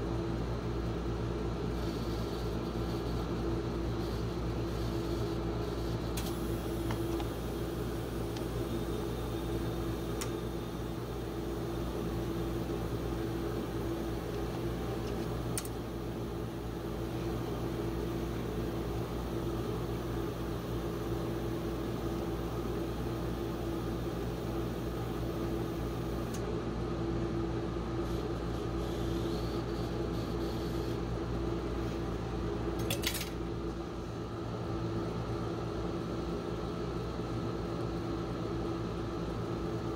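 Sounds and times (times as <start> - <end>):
refrigeration unit hum: 0.0 - 39.9.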